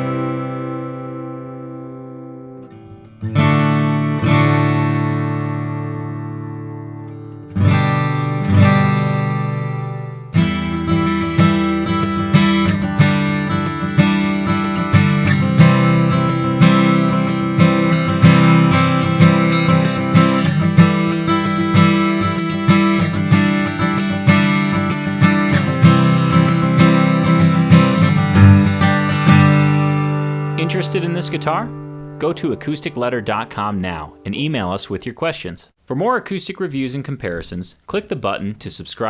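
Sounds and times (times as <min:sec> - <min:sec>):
acoustic guitar strumming: 0:00.0 - 0:35.1.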